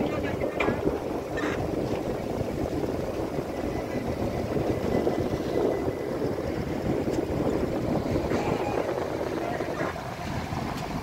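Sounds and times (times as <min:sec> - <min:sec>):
ferry engine rumble: 0:00.0 - 0:11.0.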